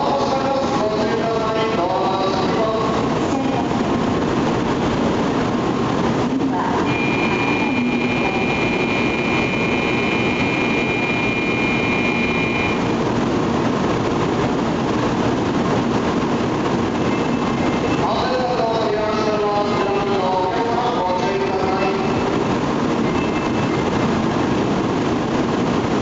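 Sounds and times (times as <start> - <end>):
high steady whine: 0.0 - 26.0
train running noise: 0.0 - 26.0.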